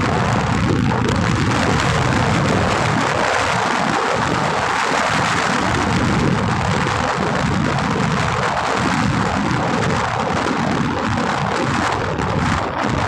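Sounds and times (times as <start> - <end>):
wind roaring over microphone: 0.0 - 13.0.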